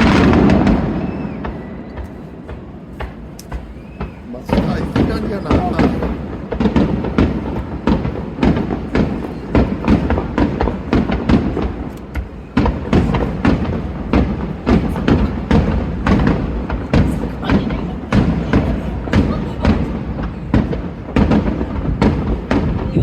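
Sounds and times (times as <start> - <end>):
fireworks booms and bangs: 0.0 - 23.0.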